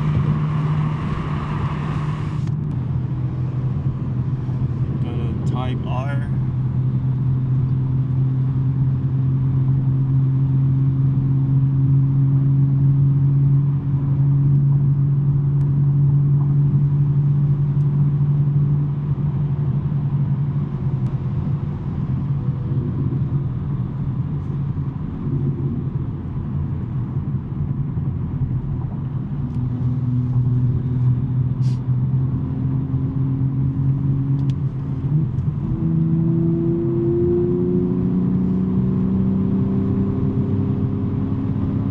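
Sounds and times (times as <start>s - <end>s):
car engine droning at cruise: 0.0s - 41.9s.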